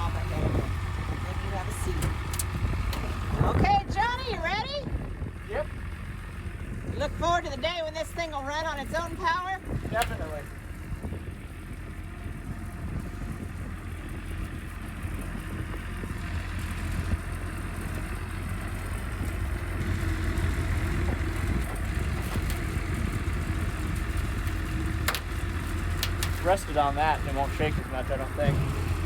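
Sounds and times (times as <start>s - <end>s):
vehicle engine under load: 0.0s - 29.0s.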